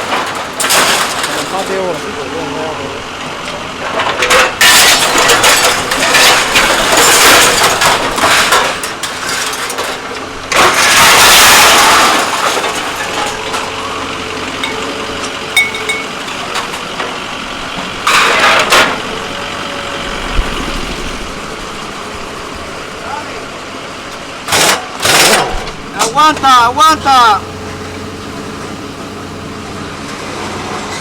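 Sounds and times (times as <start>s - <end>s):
engine running: 0.0s - 31.0s
noisy machinery bursts: 0.0s - 31.0s.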